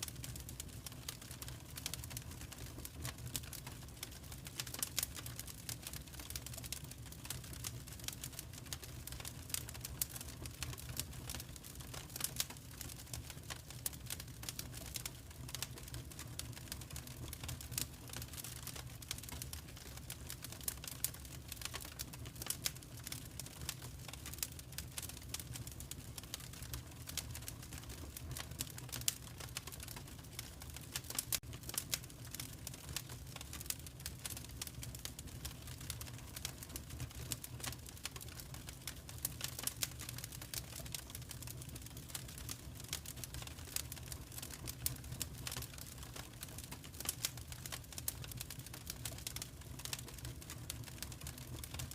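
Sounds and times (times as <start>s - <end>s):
fireplace fire crackling: 0.0s - 51.9s.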